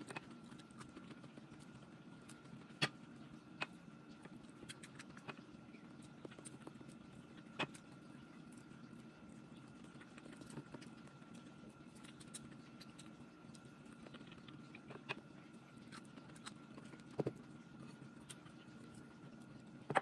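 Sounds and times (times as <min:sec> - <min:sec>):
faint steady hum: 0:00.0 - 0:20.0
soft eating clicks and smacks: 0:00.0 - 0:20.0.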